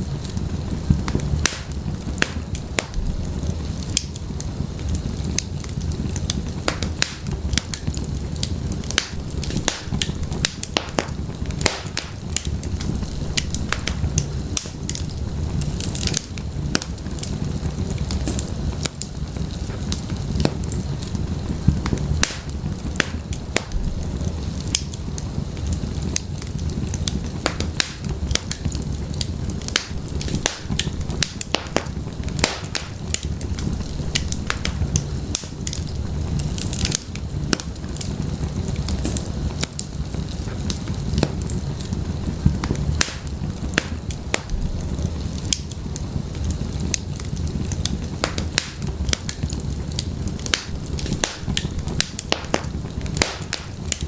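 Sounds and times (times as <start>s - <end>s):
fire low rumble: 0.0s - 54.0s
firewood crackling and popping: 0.0s - 54.0s.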